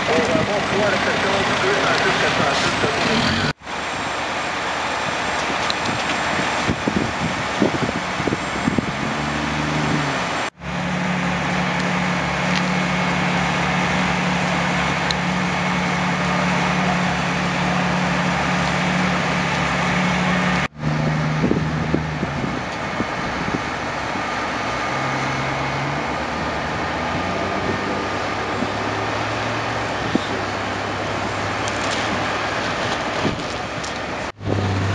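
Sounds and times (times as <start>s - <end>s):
fire truck engines idling: 0.0s - 9.2s, 10.3s - 34.9s.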